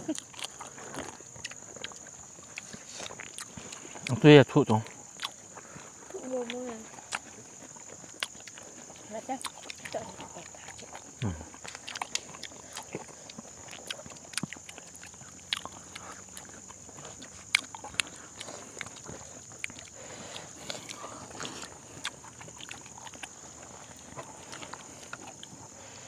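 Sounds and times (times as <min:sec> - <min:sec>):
people chewing and lip smacking: 0:00.0 - 0:26.0.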